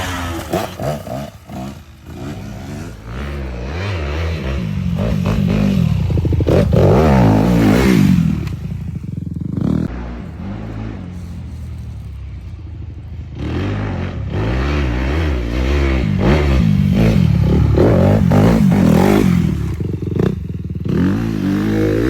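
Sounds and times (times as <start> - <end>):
quad engine revving: 0.0 - 11.6, 13.4 - 22.0.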